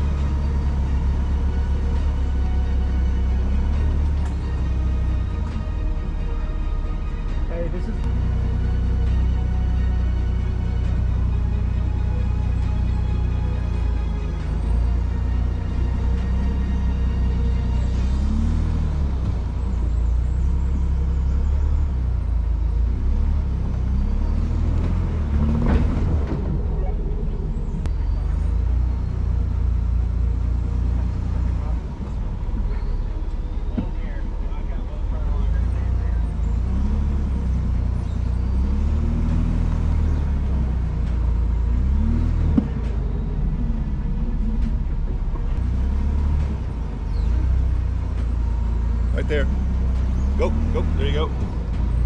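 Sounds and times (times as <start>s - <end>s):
engine low rumble: 0.0s - 52.0s.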